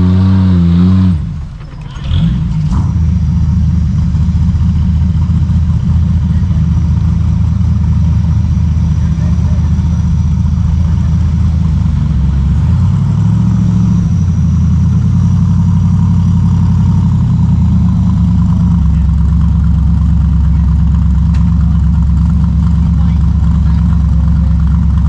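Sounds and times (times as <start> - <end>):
engine running at low revs: 0.0 - 25.0.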